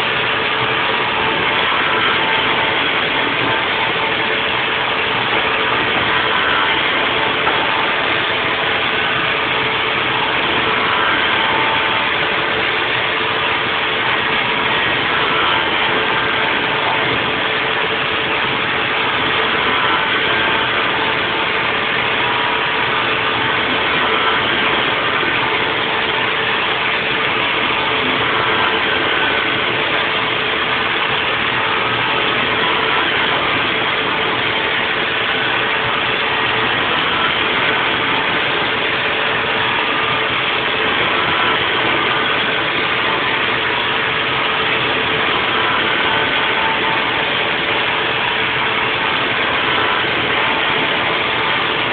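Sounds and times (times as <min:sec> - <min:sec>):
milling machine running: 0:00.0 - 0:51.9.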